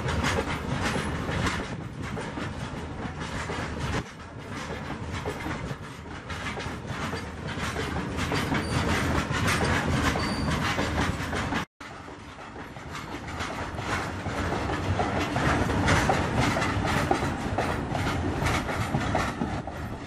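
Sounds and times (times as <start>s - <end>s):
freight wagons rolling past: 0.0s - 20.0s
wheels clattering over rail joints: 0.0s - 20.0s.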